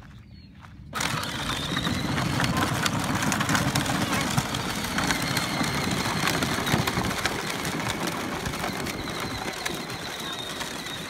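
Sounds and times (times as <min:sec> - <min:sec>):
wheels crackling on gravel: 0:00.0 - 0:11.0
electric motor whine: 0:00.9 - 0:11.0.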